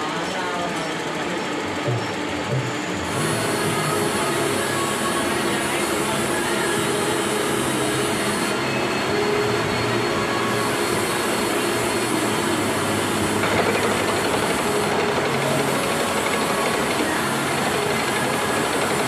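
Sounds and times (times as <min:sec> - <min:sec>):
milling machine cutting metal: 0:02.0 - 0:19.0.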